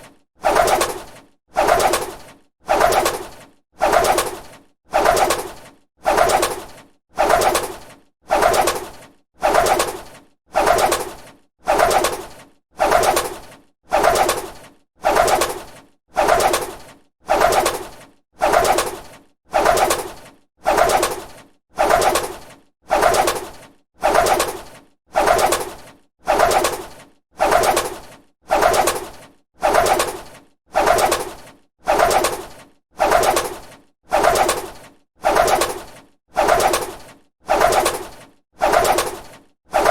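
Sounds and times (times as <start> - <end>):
bird wings flapping: 0.0 - 39.9.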